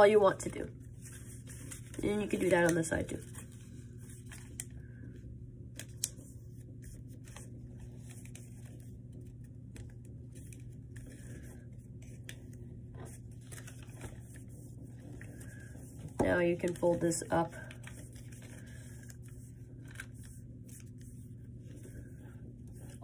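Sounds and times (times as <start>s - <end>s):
steady low hum: 0.0s - 23.0s
paper rustling and crinkling: 0.8s - 4.8s, 5.7s - 23.0s.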